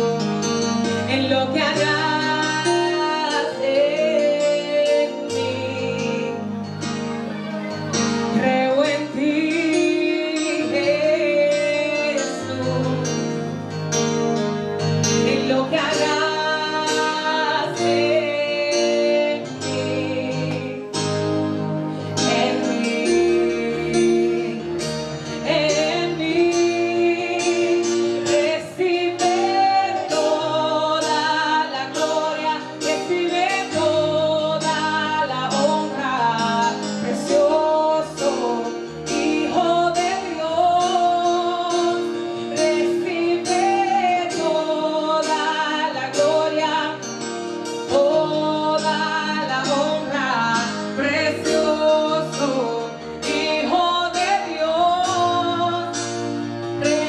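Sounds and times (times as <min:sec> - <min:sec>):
guitar accompaniment: 0:00.0 - 0:57.0
woman singing into microphone: 0:00.9 - 0:06.6, 0:08.3 - 0:13.5, 0:15.0 - 0:57.0.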